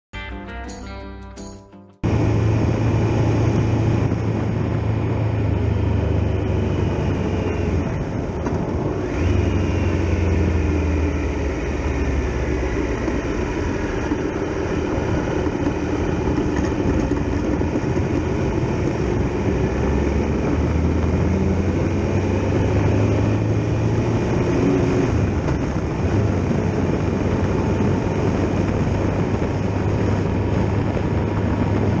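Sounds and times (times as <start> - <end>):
motorcycle engine running: 1.4 - 32.0
wind and road noise: 2.0 - 32.0.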